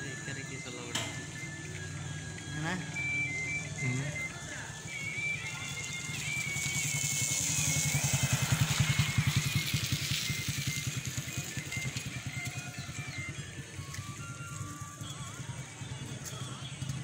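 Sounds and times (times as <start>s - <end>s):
motorcycle riding past: 1.1s - 17.0s.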